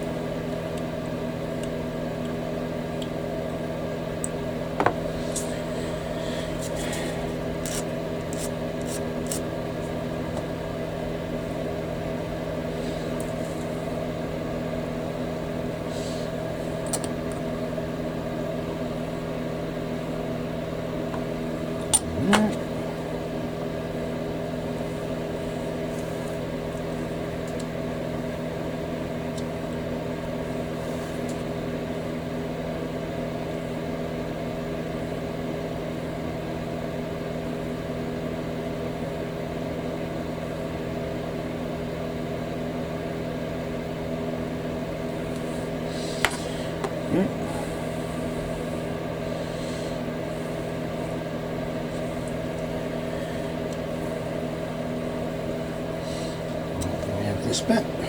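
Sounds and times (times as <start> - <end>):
steady mechanical hum: 0.0 - 58.0.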